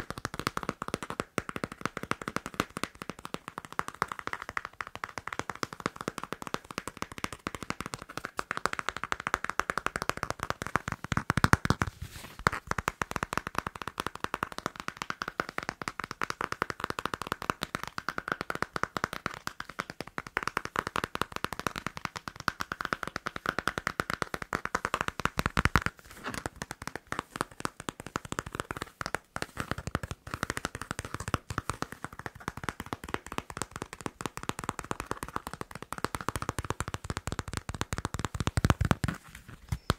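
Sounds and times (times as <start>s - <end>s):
fast tapping and scratching: 0.0s - 39.9s.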